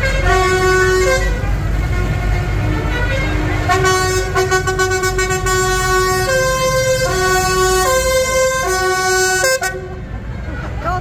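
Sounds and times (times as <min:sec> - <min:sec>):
two-tone horn: 0:00.0 - 0:10.0
tractor engines running: 0:00.0 - 0:11.0.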